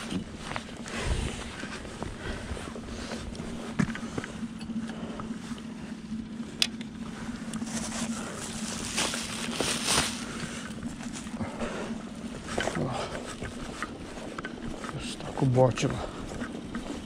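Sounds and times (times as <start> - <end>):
rustling gear: 0.0 - 17.0
steady low hum: 0.0 - 17.0.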